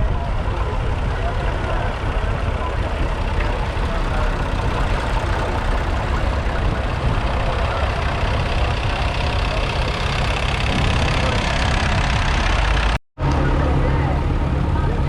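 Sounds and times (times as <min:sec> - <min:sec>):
tractor engines rumbling: 0:00.0 - 0:15.0.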